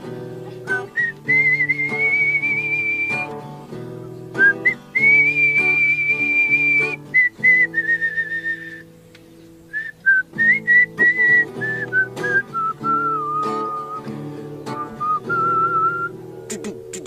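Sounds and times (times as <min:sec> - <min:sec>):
strummed acoustic guitar: 0:00.0 - 0:17.0
person whistling a melody: 0:00.6 - 0:03.4, 0:04.3 - 0:08.9, 0:09.7 - 0:16.7.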